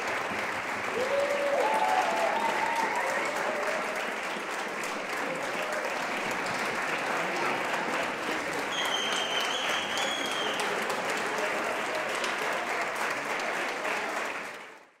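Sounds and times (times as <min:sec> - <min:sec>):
audience applause: 0:00.0 - 0:15.0.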